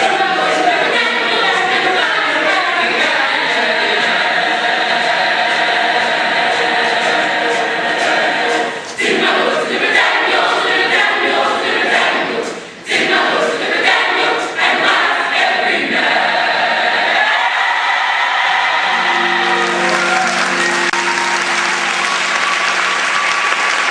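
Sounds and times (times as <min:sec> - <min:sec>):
choir singing in harmony: 0:00.0 - 0:23.9.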